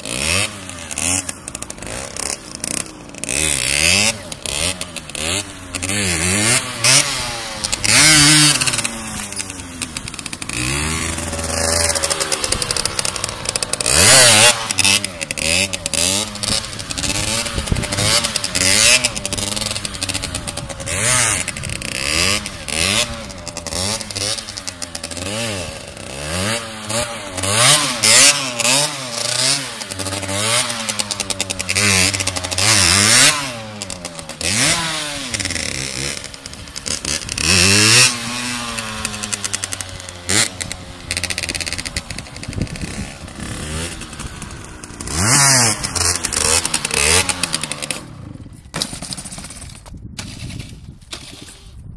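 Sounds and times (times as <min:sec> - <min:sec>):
motorcycle engine revving: 0:00.0 - 0:51.8.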